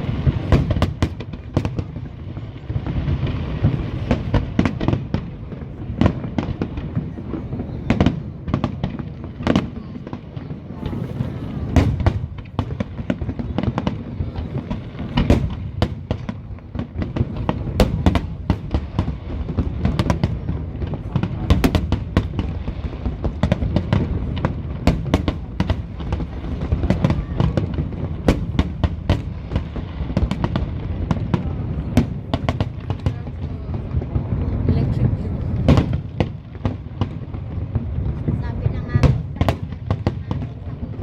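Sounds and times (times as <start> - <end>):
fireworks sharp bangs: 0.0 - 41.0.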